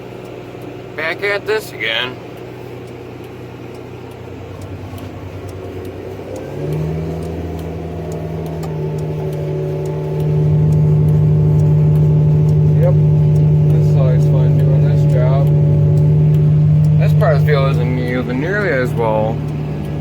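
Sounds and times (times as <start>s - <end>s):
hazard flasher relay ticking: 0.0s - 20.0s
tractor diesel engine revving: 0.0s - 20.0s.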